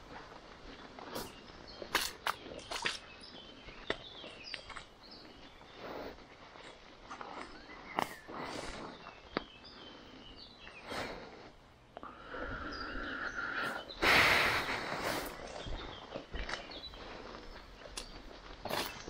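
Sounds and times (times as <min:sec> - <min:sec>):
footsteps on muddy trail: 0:00.0 - 0:19.0.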